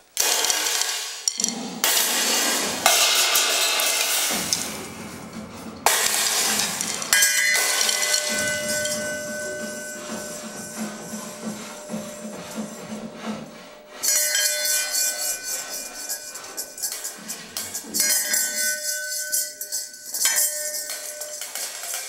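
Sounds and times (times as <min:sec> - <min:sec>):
cymbal crashes: 0:00.2 - 0:22.0.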